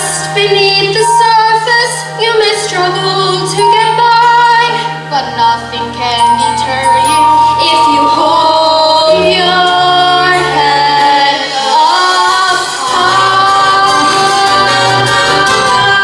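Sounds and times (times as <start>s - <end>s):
musical accompaniment: 0.0s - 16.0s
woman singing long notes: 0.0s - 16.0s.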